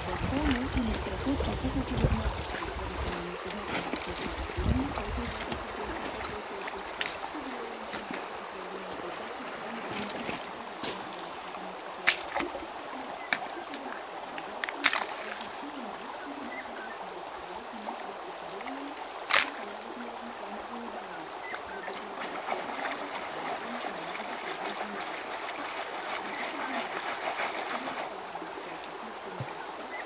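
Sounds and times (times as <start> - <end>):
water sloshing in gold pan: 0.0 - 17.5, 21.3 - 30.0
running stream: 0.0 - 30.0.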